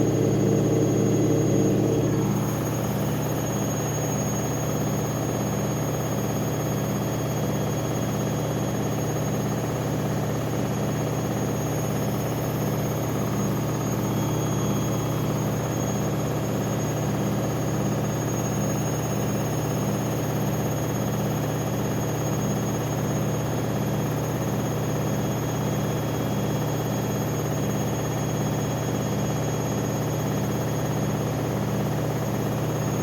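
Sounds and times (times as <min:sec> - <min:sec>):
washing machine spin cycle hum: 0:00.0 - 0:33.0.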